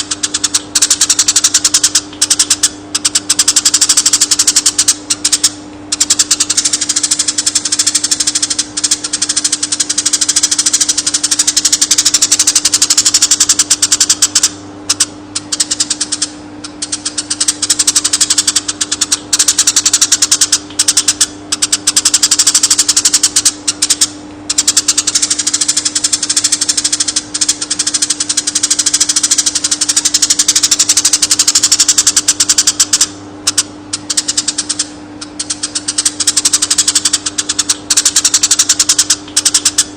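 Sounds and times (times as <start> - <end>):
sparrow trilling: 0.0 - 39.9
steady low hum: 0.0 - 39.9.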